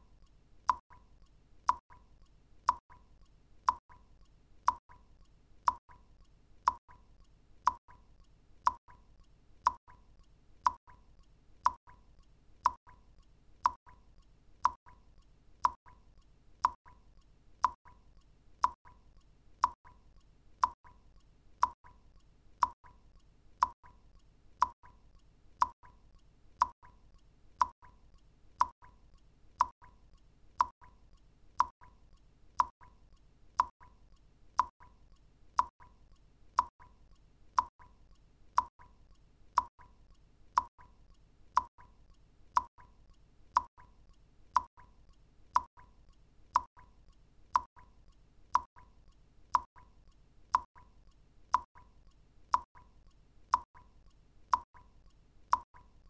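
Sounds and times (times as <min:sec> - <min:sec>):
faint low hiss: 0:00.0 - 0:56.0.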